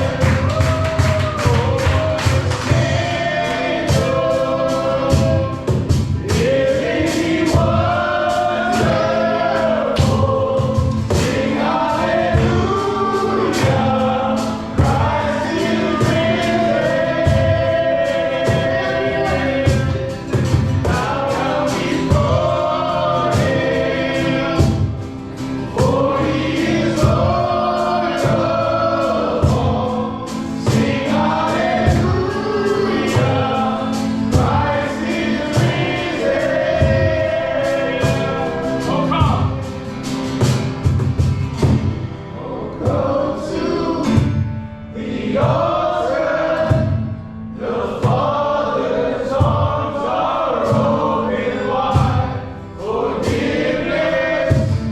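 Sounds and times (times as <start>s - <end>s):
band playing: 0.0s - 54.9s
group of voices singing: 0.0s - 54.9s
steady drum beat: 0.0s - 54.9s.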